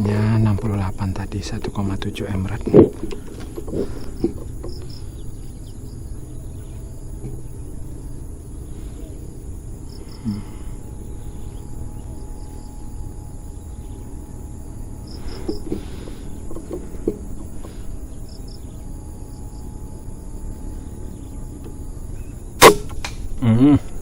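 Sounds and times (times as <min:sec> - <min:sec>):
high insect drone: 0:00.0 - 0:24.0
insect chirps: 0:00.0 - 0:24.0.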